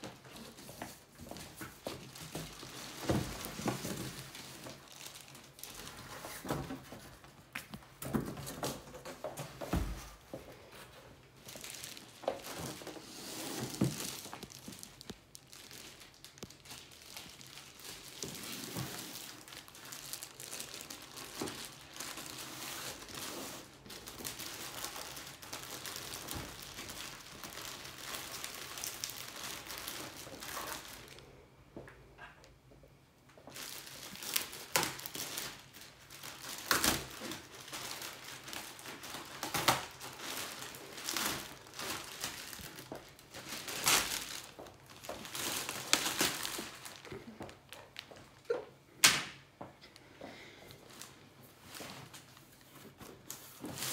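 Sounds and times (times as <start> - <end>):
plastic wrap crinkling: 0.0 - 31.3, 33.4 - 48.8, 50.7 - 53.9.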